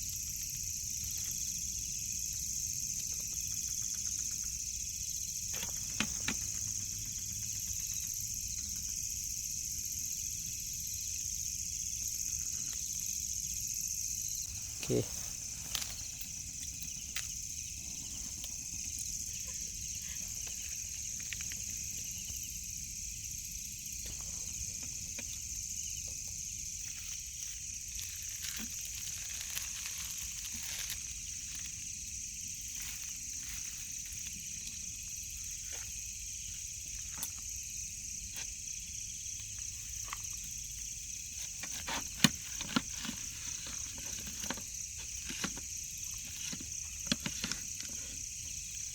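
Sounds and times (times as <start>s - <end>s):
insect chorus: 0.0s - 48.9s.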